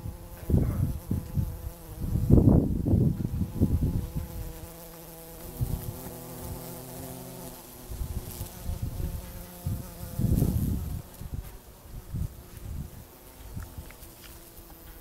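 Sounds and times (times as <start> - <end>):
bee buzzing in flight: 0.0 - 15.0.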